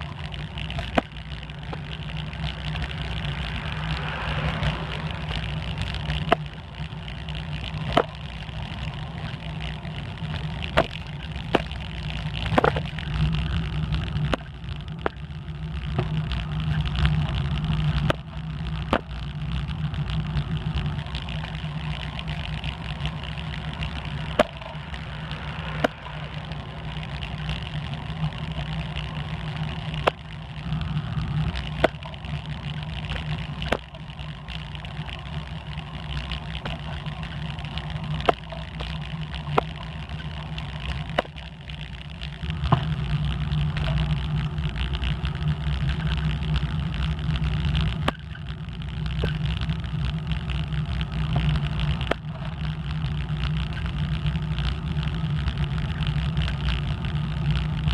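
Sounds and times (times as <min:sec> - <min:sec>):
bicycle road noise: 0:00.0 - 0:57.9
wind rumble: 0:00.0 - 0:57.9.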